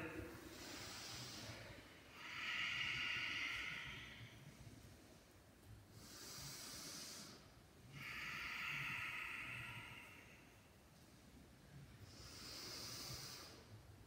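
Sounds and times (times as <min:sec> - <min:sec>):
woman breathing heavily: 0:00.0 - 0:14.0.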